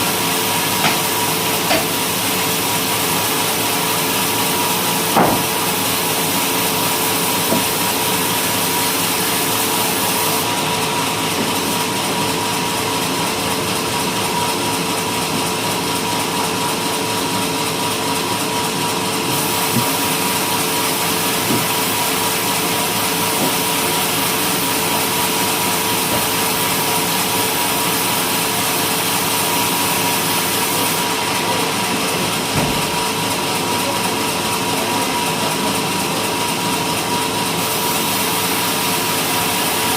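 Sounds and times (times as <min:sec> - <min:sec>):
sawmill sawing wood: 0:00.0 - 0:39.9.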